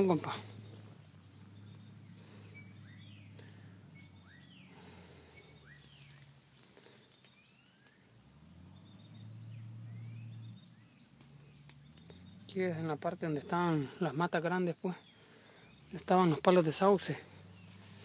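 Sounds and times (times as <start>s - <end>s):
birds whistling calls: 0.0s - 18.0s.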